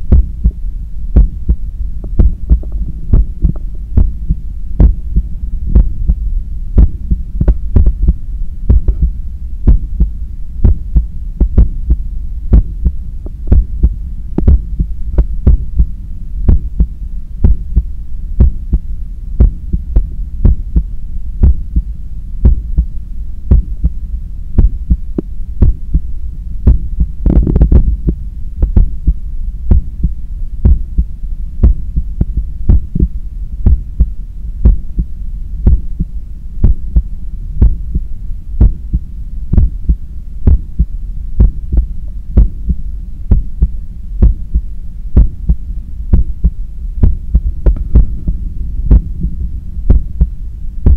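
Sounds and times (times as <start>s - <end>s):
heartbeat through stethoscope: 0.0s - 0.6s, 1.2s - 24.0s, 24.6s - 50.9s
steady low hum: 0.0s - 50.9s.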